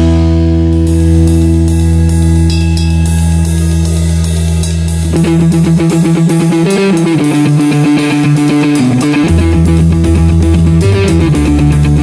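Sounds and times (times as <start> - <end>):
bass: 0.0 - 12.0
electric guitars holding notes: 0.0 - 12.0
steady drums: 0.0 - 12.0.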